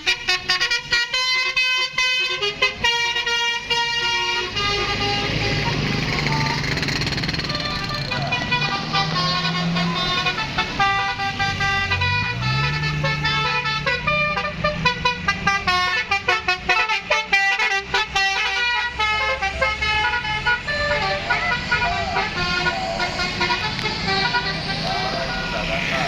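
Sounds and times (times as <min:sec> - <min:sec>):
bus engine running: 0:00.0 - 0:26.0
multi-tone bus horn melody: 0:00.0 - 0:26.0.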